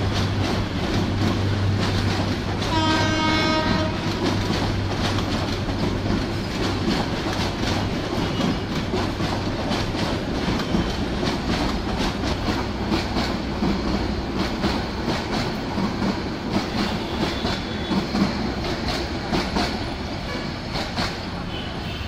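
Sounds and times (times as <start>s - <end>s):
train wheels clickety-clack: 0.0s - 22.0s.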